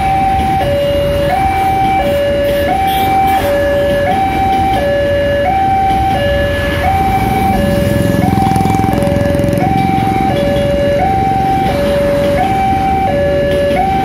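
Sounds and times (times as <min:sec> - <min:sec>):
electric train rumbling past: 0:00.0 - 0:14.0
level crossing two-tone alarm: 0:00.0 - 0:14.0.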